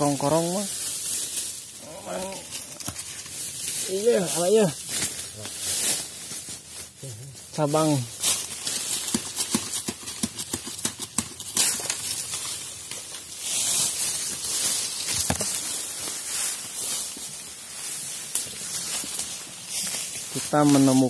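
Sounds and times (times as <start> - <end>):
footsteps crunching through dry leaves: 0.0 - 21.0.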